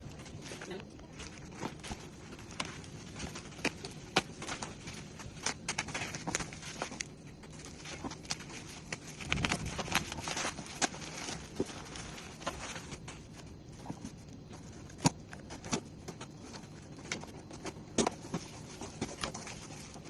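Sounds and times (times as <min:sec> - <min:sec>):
packaging crinkling and clicking: 0:00.0 - 0:20.0.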